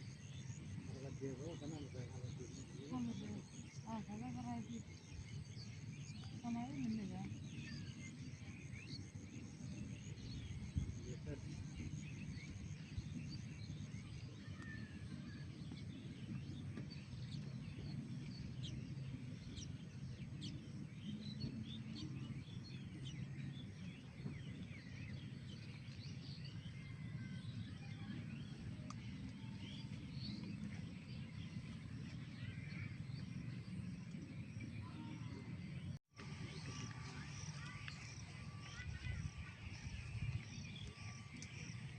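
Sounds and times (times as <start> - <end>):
low outdoor rumble: 0.0 - 41.9
small birds chirping: 0.0 - 41.9.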